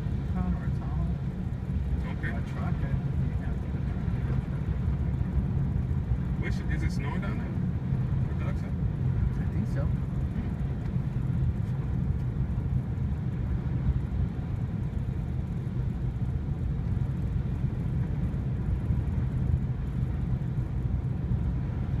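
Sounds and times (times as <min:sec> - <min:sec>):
car engine rumble: 0:00.0 - 0:22.0
tyres on snowy road: 0:00.0 - 0:22.0.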